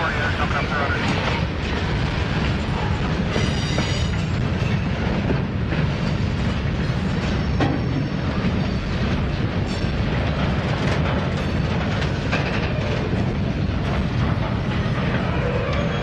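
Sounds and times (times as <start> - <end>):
freight cars rumbling on rails: 0.0 - 16.0.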